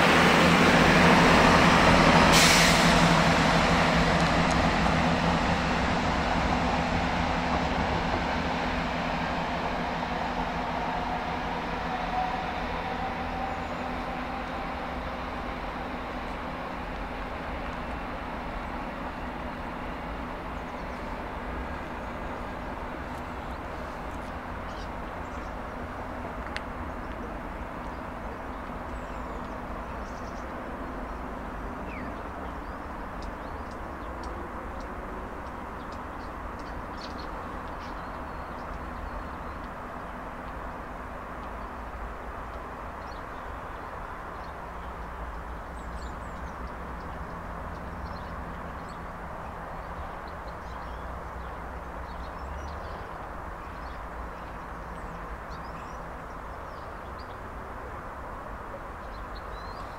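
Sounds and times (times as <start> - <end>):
distant train rumble: 0.0 - 59.9.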